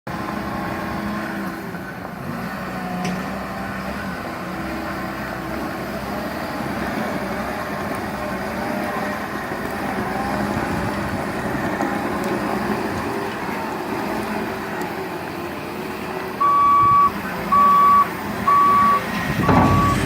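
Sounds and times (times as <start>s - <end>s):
diesel engine droning: 0.1s - 20.0s.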